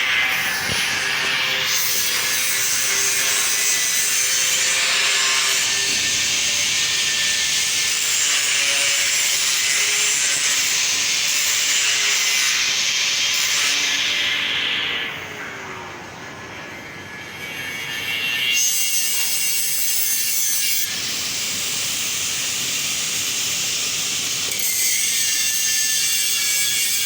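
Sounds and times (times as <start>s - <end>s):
angle grinder grinding metal: 0.0s - 14.8s, 17.4s - 27.0s.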